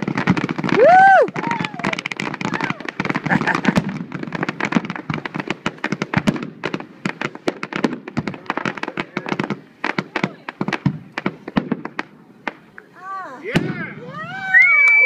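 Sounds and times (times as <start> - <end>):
fireworks barrage: 0.0 - 15.0.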